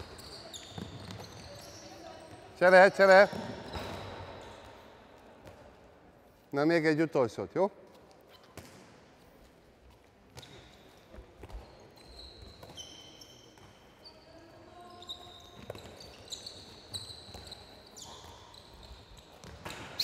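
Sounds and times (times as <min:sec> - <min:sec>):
shoes squeaking on wooden court: 0:00.0 - 0:05.8, 0:07.9 - 0:20.0.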